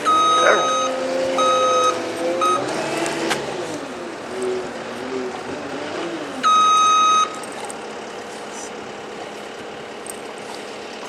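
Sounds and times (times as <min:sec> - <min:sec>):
low wavering engine hum: 0:00.0 - 0:11.0
outdoor background noise: 0:00.0 - 0:11.0.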